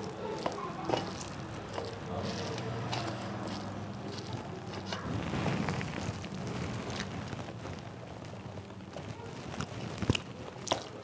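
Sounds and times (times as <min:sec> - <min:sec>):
chewing food: 0:00.0 - 0:11.0
fingers mixing rice on plate: 0:00.0 - 0:11.0.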